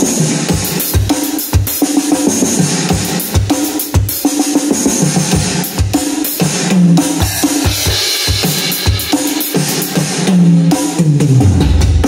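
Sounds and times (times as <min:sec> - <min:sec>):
electronic drum kit groove: 0:00.0 - 0:12.0.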